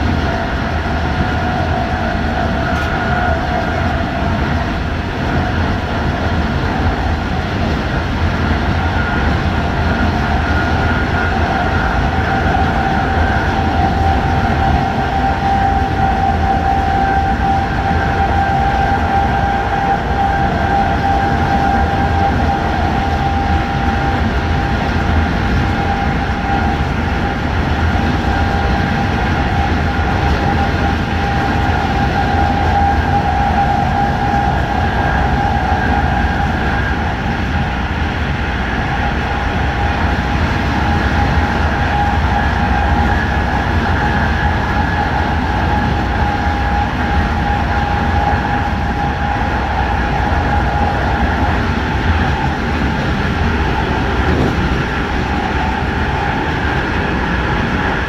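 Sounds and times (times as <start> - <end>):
high-pitched whine: 0.0 - 58.0
train wheels rumbling on rail: 0.0 - 58.0.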